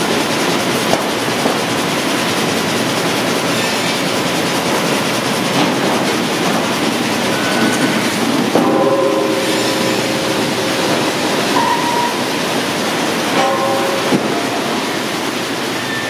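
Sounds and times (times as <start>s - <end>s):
sawmill machinery clatter: 0.0s - 16.0s
steady machine whine: 0.0s - 16.0s.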